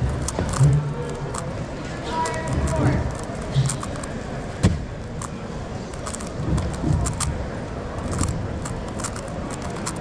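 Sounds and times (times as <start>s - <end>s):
plastic puzzle clicking and clacking: 0.0s - 1.5s, 2.1s - 4.2s, 5.0s - 7.4s, 8.0s - 10.0s.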